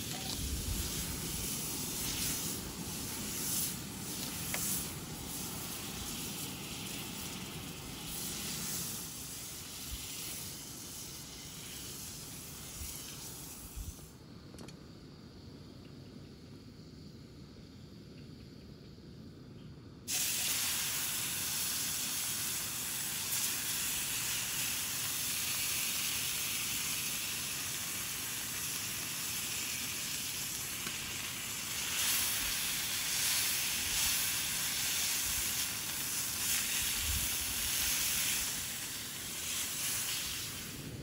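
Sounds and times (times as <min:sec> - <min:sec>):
french toast sizzling in a frying pan: 0:00.0 - 0:14.0, 0:20.1 - 0:41.0.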